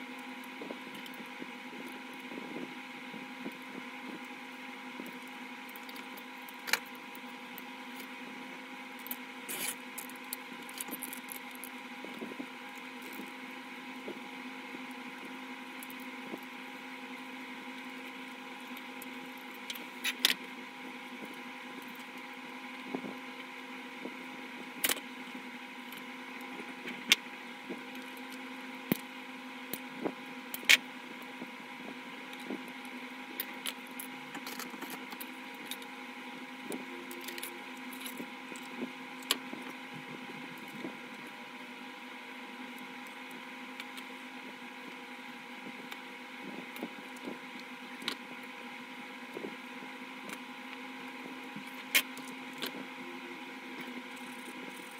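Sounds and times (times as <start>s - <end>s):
background hum: 0.0s - 54.9s.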